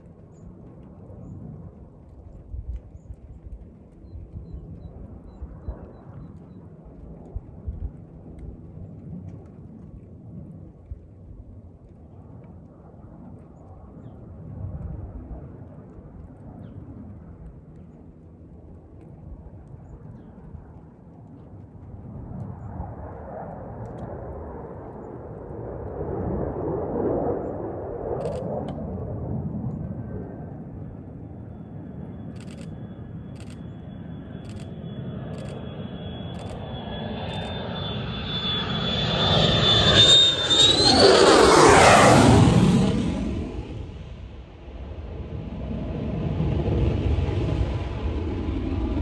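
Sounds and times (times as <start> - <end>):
jet engine rumble: 0.0 - 49.0.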